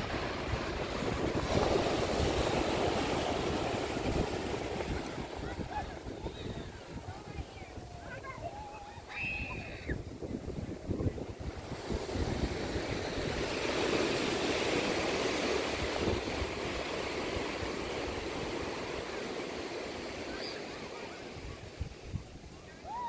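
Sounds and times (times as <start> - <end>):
wind buffeting the microphone: 0.0 - 19.2, 21.3 - 22.7
surf breaking on a beach: 0.0 - 23.0.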